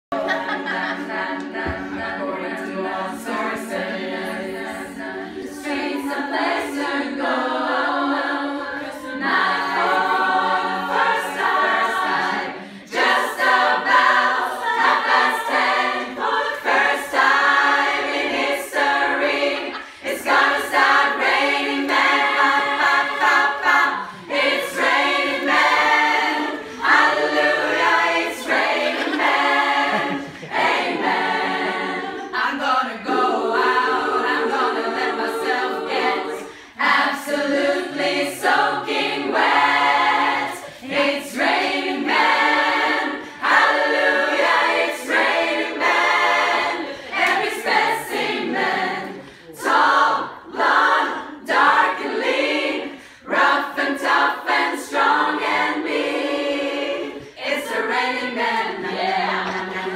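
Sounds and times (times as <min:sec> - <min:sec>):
women's choir singing a cappella: 0:00.0 - 0:59.9.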